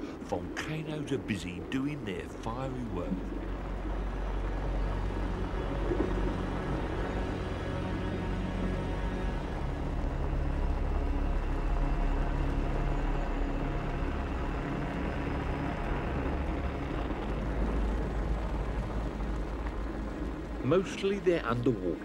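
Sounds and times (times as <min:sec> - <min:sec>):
deep rumble of volcanic vent: 0:00.0 - 0:22.0.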